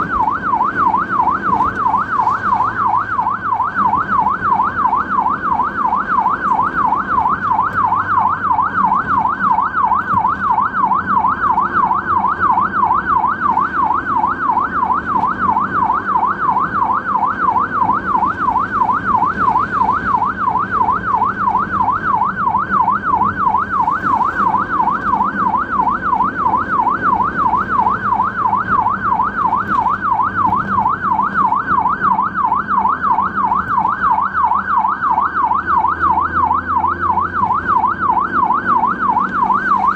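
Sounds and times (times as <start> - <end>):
ambulance siren yelping: 0.0 - 39.9.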